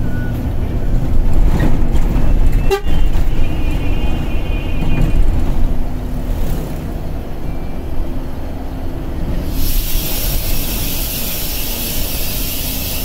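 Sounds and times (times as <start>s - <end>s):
bus engine and tyres rumbling: 0.0s - 13.0s.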